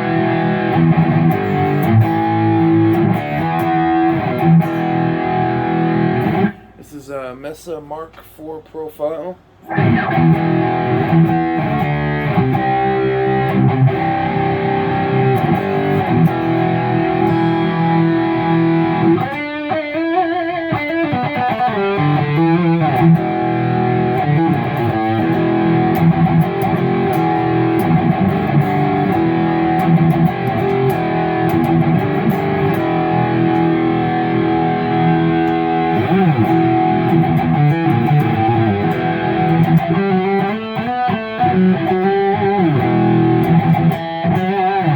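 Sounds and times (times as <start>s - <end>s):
distorted electric guitar rhythm: 0.0s - 7.0s, 9.5s - 44.9s.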